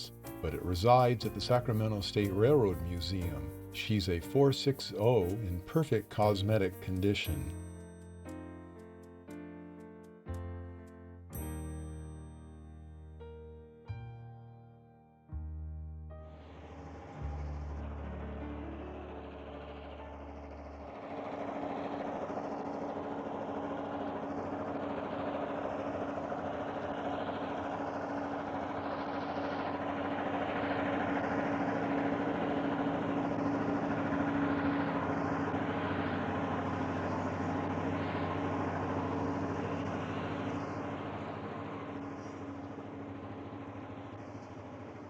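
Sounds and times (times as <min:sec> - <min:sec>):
train running by: 0:00.0 - 0:08.5, 0:16.4 - 0:45.0.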